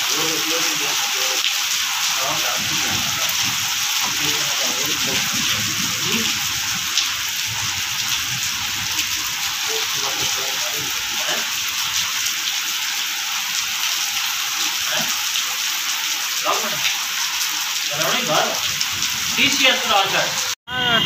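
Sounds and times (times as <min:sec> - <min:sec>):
heavy rain on wet paving: 0:00.0 - 0:21.0.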